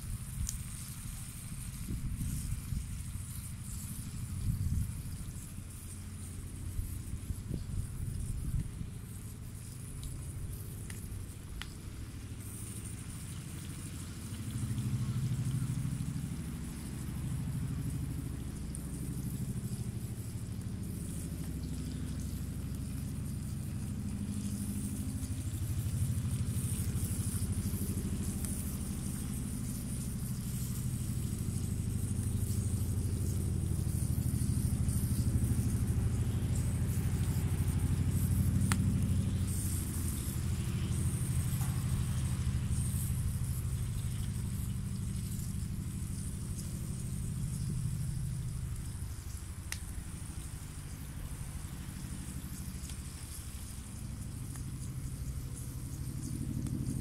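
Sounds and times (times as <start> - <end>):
log fire burning rumble: 0.0 - 57.0.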